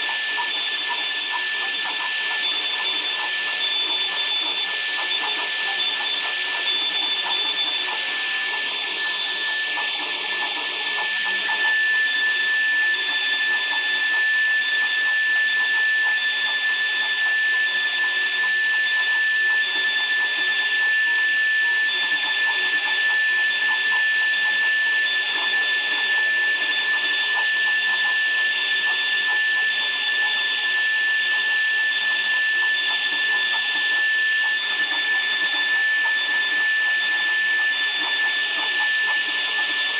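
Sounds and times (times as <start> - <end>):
power tool whining: 2.1 - 39.9.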